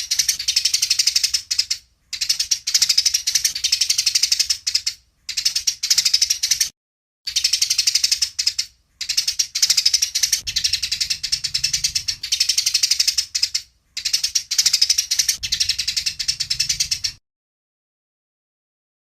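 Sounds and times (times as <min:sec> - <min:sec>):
sparrow chattering: 0:00.0 - 0:06.7, 0:07.3 - 0:17.2.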